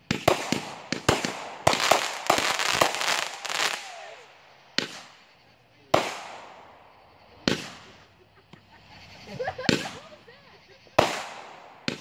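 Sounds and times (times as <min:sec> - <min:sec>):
fireworks bangs: 0:00.0 - 0:12.0
fireworks crackling pops: 0:00.0 - 0:12.0.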